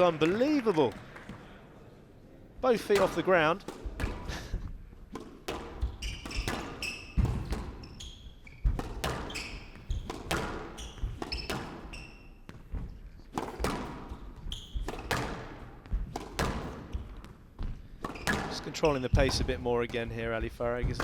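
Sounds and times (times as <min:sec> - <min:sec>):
shoes squeaking on court floor: 0:02.7 - 0:21.0
squash ball impacts: 0:02.8 - 0:21.0.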